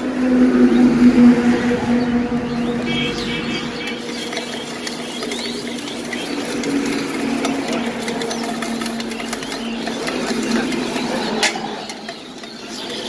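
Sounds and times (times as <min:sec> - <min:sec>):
puffed rice rattling in metal tumbler: 0:00.0 - 0:13.0.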